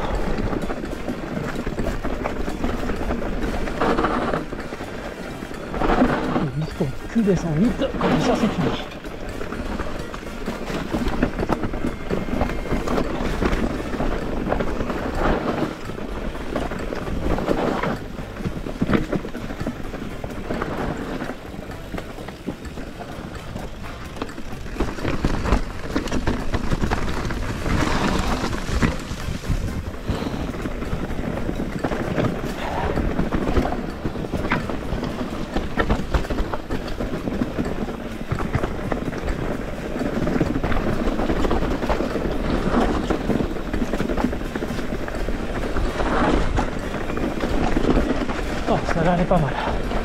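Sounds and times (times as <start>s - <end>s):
bike rattling over bumps: 0.0s - 50.0s
bike tyres crunching on stones: 0.0s - 50.0s
wind buffeting microphone: 0.0s - 50.0s.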